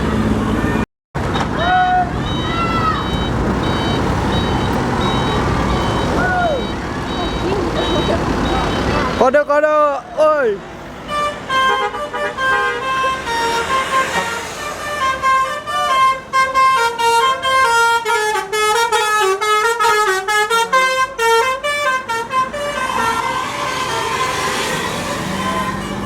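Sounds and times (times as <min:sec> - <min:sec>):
multi-tone bus horn melody: 0:01.2 - 0:09.2, 0:10.9 - 0:26.0.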